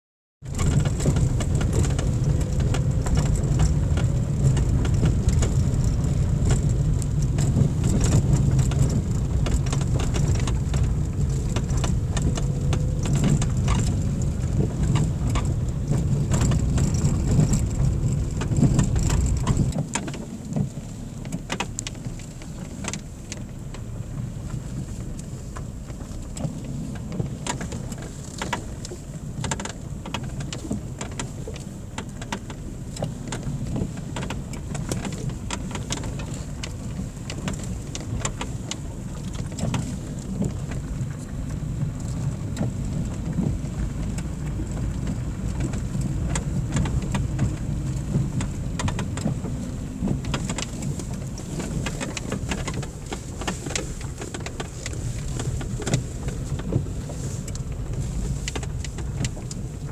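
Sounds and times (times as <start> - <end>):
car tyres rumbling on gravel: 0.4 - 59.9.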